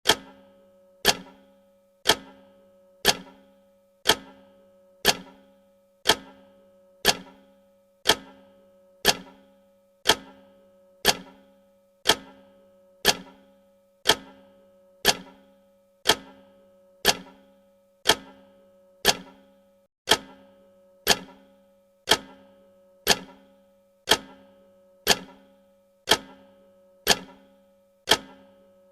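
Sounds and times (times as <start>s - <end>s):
clock ticking: 0.1s - 19.5s, 20.1s - 20.4s, 21.0s - 21.5s, 22.1s - 23.5s, 24.1s - 27.5s, 28.1s - 28.6s.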